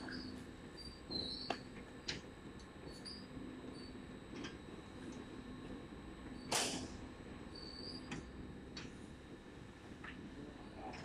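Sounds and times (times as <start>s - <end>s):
conveyor humming: 0.0s - 11.0s.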